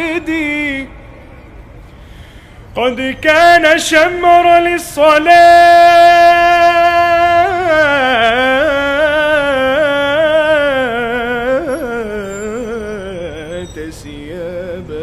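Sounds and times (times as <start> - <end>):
man singing melisma: 0.0 - 1.0, 2.8 - 15.0.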